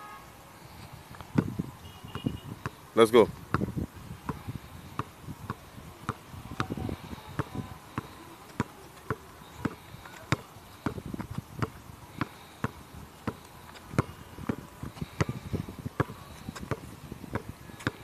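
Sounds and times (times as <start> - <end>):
basketball bouncing on concrete: 1.2 - 18.0.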